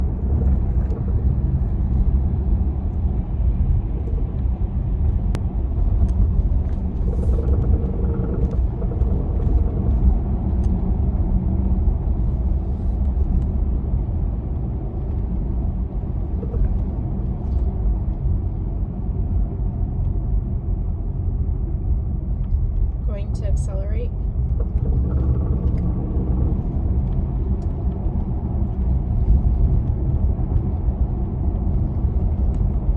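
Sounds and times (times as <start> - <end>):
road and tyre rumble: 0.0 - 32.9.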